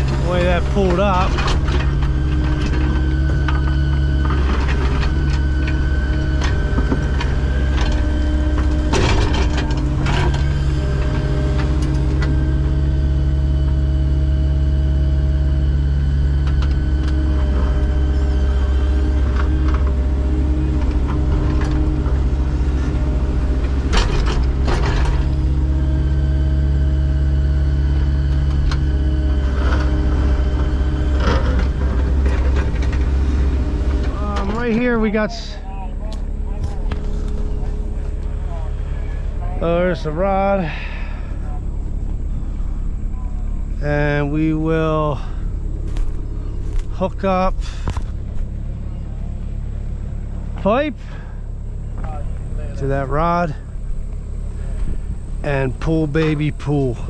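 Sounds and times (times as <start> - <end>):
diesel engine running: 0.0 - 57.0
hydraulic whine: 0.0 - 57.0.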